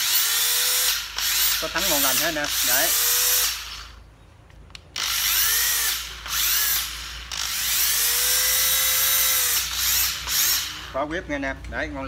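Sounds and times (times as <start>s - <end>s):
electric screwdriver motor whine: 0.0s - 4.0s, 5.0s - 10.9s.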